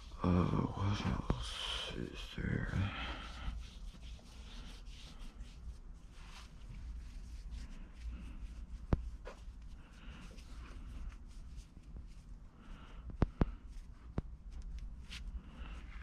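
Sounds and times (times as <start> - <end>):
rustling of objects being handled: 2.3 - 16.0.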